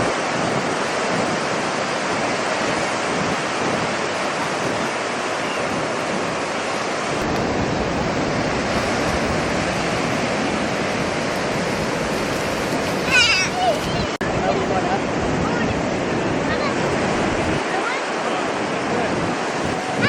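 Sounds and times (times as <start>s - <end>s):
deep surf rumble: 0.0s - 20.0s
ocean surf rushing: 0.0s - 20.0s.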